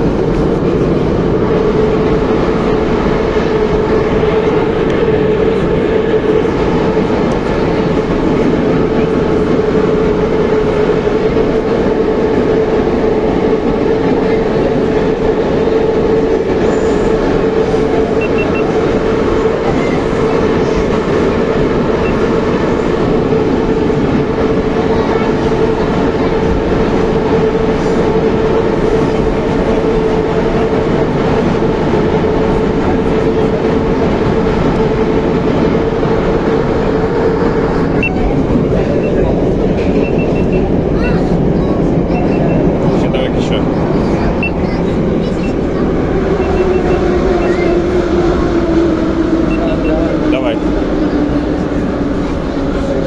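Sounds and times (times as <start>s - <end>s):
subway train rumbling: 0.0s - 53.0s.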